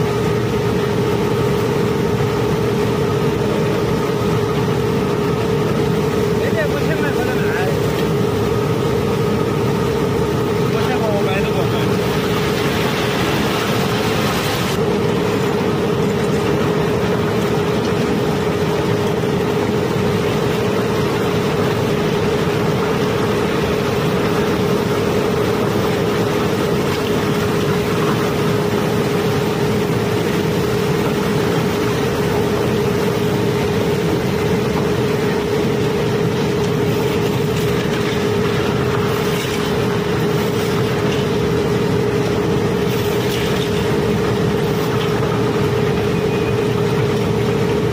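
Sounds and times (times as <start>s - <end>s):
machine hum: 0.0s - 47.9s.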